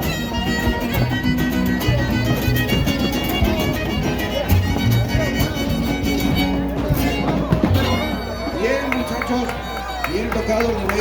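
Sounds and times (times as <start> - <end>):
plucked bass notes: 0.0 - 9.7
strummed guitar: 0.0 - 9.7
violin melody: 0.0 - 10.1.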